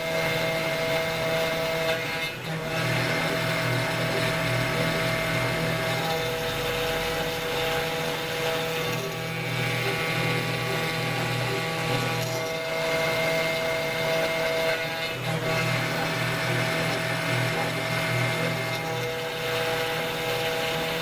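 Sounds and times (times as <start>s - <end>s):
bit cutting plastic: 0.0s - 21.0s
router spindle whine: 0.0s - 21.0s.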